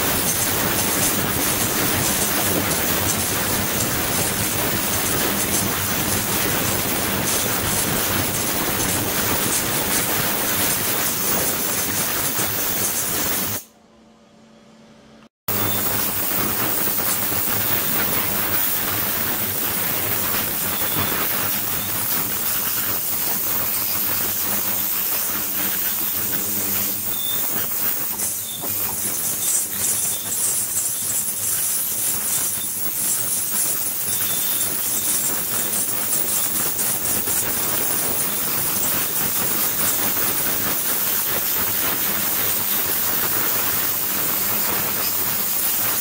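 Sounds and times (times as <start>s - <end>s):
ultrasonic cleaner water hiss: 0.0s - 13.6s, 15.5s - 46.0s.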